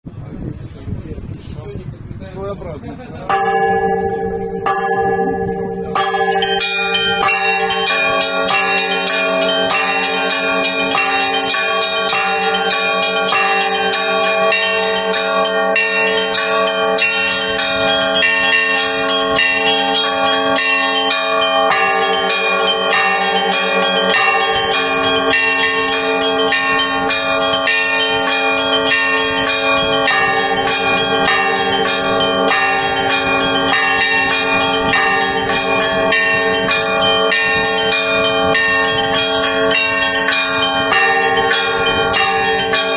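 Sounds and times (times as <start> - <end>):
church bells pealing: 3.2 - 42.9.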